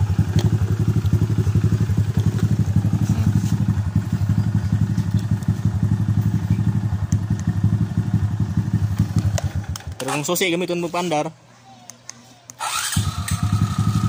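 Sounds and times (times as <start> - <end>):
motorcycle engine idling: 0.0 - 10.3, 12.8 - 14.0.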